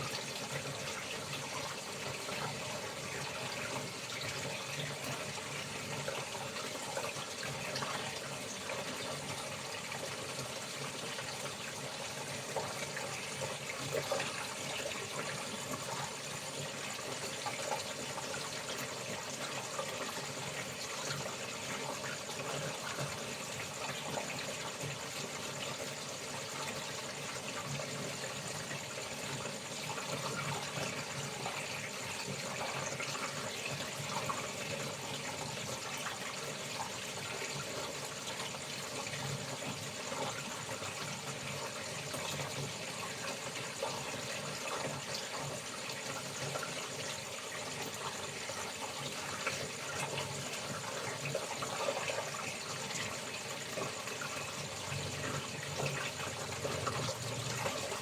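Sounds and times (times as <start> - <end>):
water running and splashing: 0.0 - 58.0.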